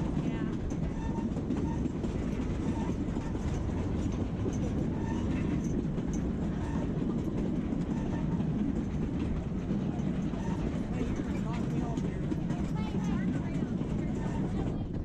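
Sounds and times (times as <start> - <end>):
steam train rumbling on rails: 0.0 - 15.0
wheel clatter: 0.0 - 15.0.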